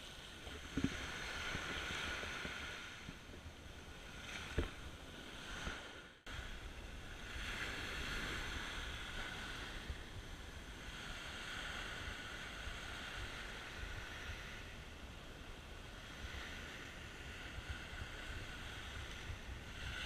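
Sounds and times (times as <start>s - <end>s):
surf washing up shore: 0.0s - 20.0s
wind rumbling on microphone: 0.0s - 20.0s.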